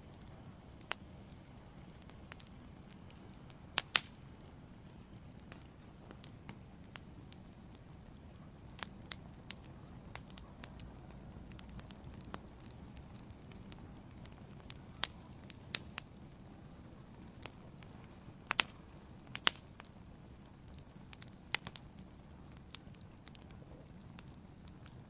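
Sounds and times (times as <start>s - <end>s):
fire flames rumbling: 0.0s - 25.0s
logs crackling and popping: 0.0s - 25.0s.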